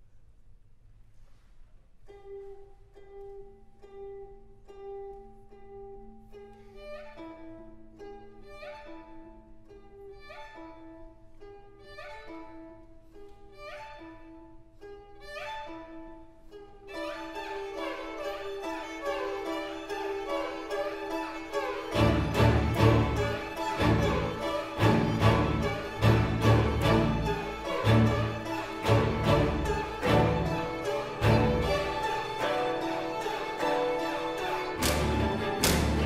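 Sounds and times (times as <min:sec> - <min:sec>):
string orchestra: 0:02.0 - 0:36.0
zheng sweeps: 0:06.3 - 0:36.0.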